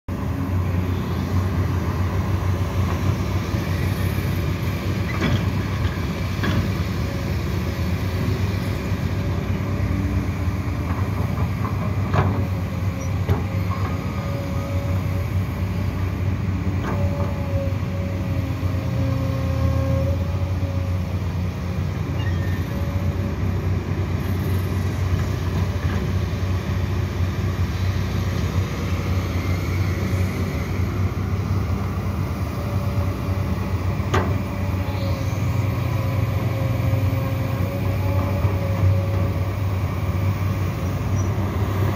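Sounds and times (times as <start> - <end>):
excavator engine and hydraulics: 0.1 - 41.9.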